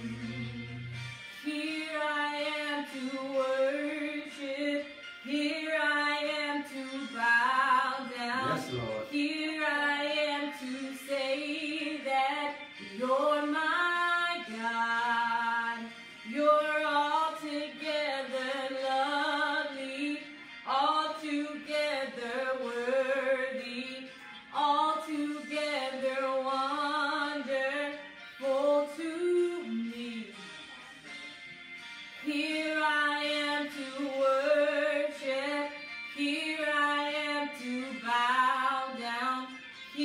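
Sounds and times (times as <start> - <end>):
woman singing gospel: 1.4 - 30.7, 32.2 - 40.0.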